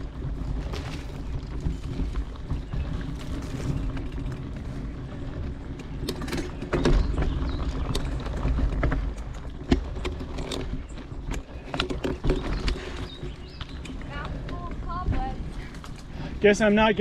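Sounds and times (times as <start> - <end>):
wind rumbling on microphone: 0.0 - 17.0
clicks and knocks from gear: 0.3 - 16.1.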